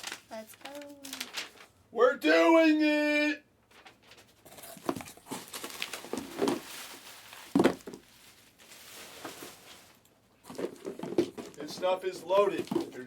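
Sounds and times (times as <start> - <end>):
packaging crinkling and rustling: 0.0 - 1.8, 3.7 - 13.0.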